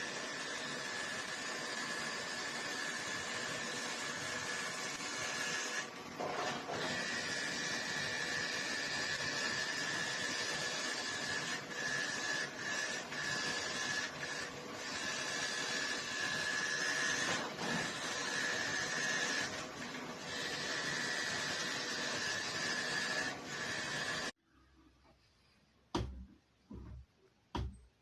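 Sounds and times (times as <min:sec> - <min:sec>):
washing machine motor whine: 0:00.0 - 0:24.3.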